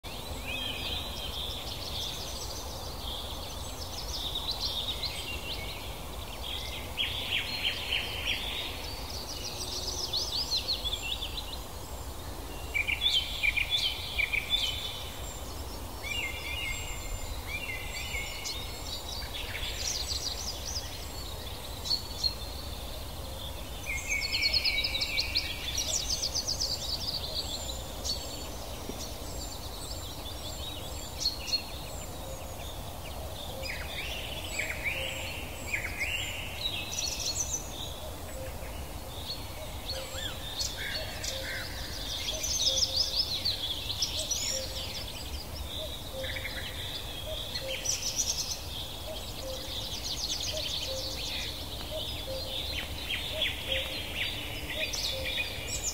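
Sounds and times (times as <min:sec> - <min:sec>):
small birds chirping and trilling: 0:00.0 - 0:55.9.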